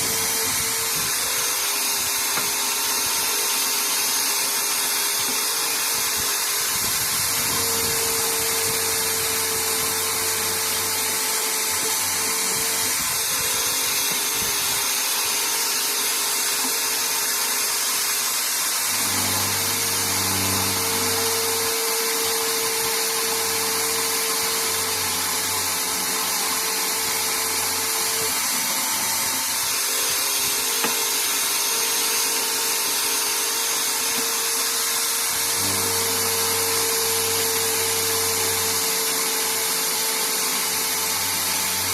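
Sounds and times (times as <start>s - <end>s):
bench drill motor whirring: 0.0s - 41.9s.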